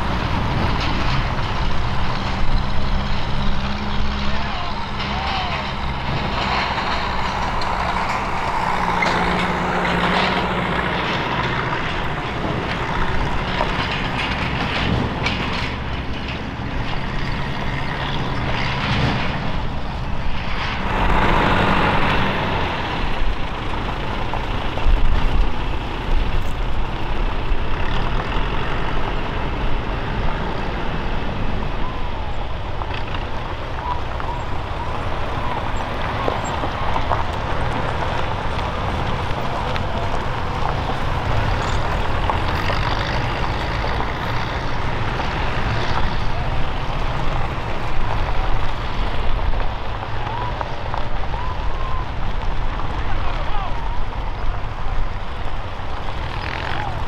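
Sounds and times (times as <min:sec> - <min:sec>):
off-road vehicle engines: 0:00.0 - 0:57.0
tyres on gravel: 0:00.0 - 0:57.0.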